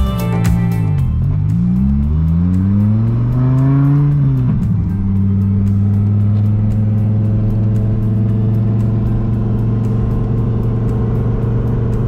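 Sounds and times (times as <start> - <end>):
car engine running inside cabin: 0.6 - 12.0.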